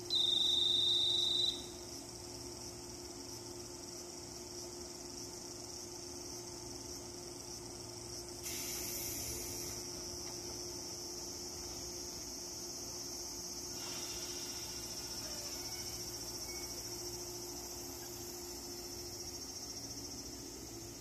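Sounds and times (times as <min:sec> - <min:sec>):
low electrical hum: 0:00.0 - 0:08.4, 0:09.0 - 0:13.7, 0:14.5 - 0:21.0
crickets chirring: 0:00.0 - 0:21.0.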